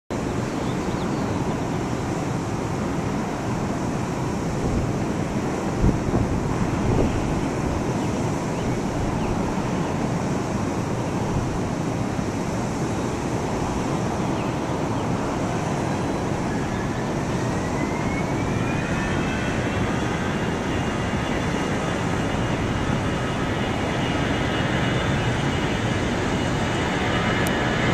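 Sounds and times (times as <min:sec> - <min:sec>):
distant jet engines rushing: 0:00.1 - 0:27.9
jet engine whine rising: 0:00.2 - 0:27.9.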